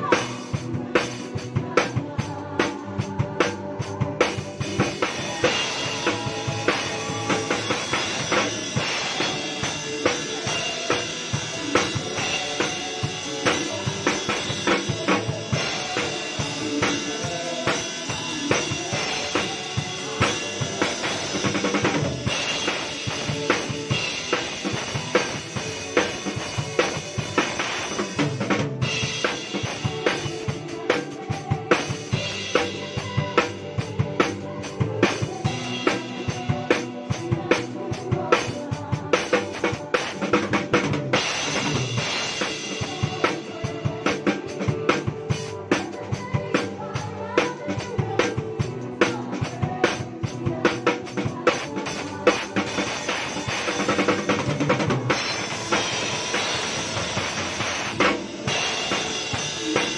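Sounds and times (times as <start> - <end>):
drum kit groove: 0.0 - 59.9.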